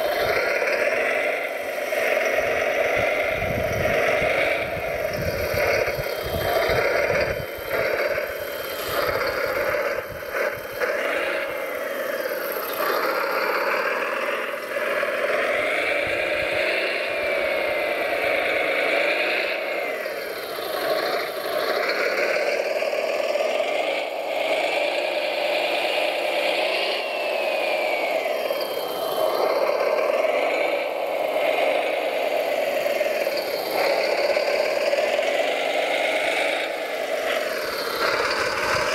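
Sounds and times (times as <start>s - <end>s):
model machine motors whining: 0.0s - 38.9s.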